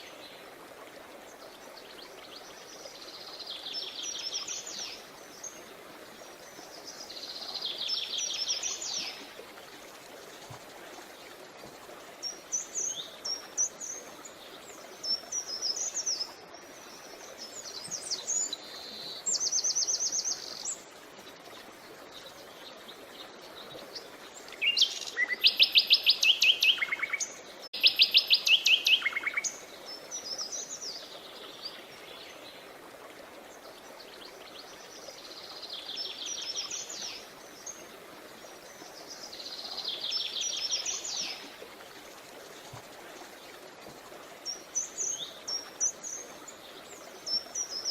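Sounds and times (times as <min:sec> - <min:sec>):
creek water rushing: 0:00.0 - 0:47.9
songbirds singing and trilling: 0:01.3 - 0:32.7, 0:33.5 - 0:47.9.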